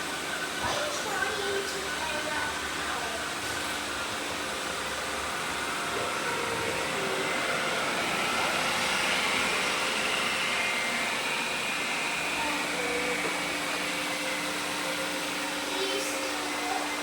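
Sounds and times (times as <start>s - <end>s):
robot vacuum cleaners whirring: 0.0s - 17.0s.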